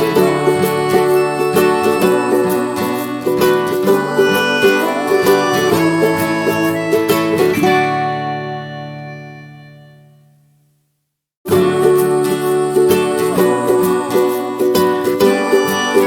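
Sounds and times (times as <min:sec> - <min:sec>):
plucked string instrument: 0:00.0 - 0:10.5, 0:11.5 - 0:16.0.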